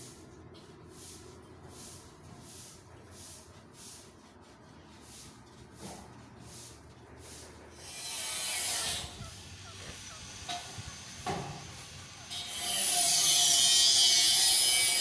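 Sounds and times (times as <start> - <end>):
rhythmic scraping strokes: 0.0 - 15.0.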